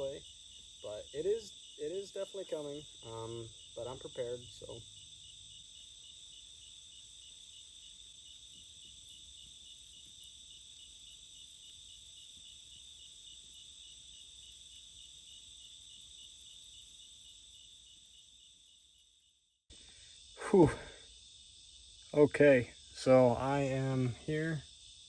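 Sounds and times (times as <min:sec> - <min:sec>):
crickets and insects trilling: 0:00.0 - 0:25.0.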